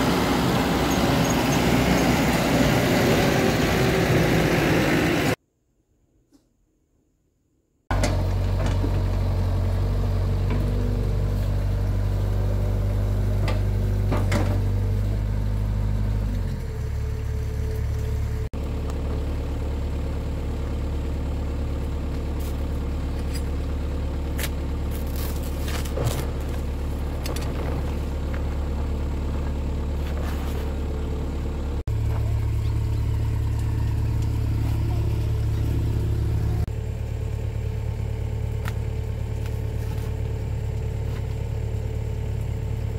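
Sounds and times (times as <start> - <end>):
excavator diesel engine running: 0.0 - 5.4, 7.9 - 42.9.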